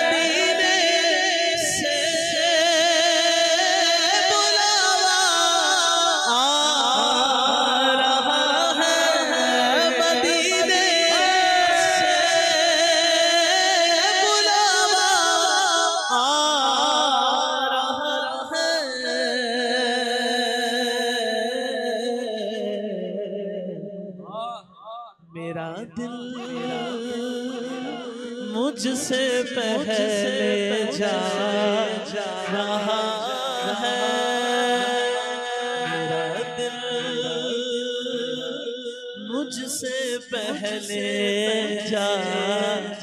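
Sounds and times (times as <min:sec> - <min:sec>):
men singing through microphones: 0:00.0 - 0:22.9, 0:25.4 - 0:43.0.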